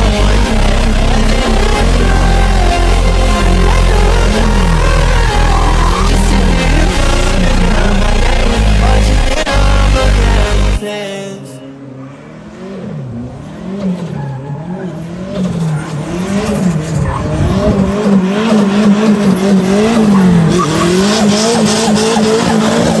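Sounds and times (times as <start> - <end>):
car engine revving: 0.0 - 23.0
tyres skidding: 0.0 - 23.0.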